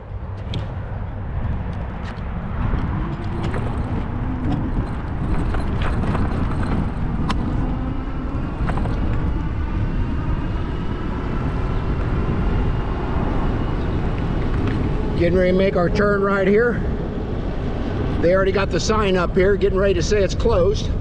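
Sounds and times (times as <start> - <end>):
tyres rolling on trail: 0.0 - 21.0
wind rumbling over microphone: 0.0 - 21.0
faint electric motor whine: 0.2 - 18.2.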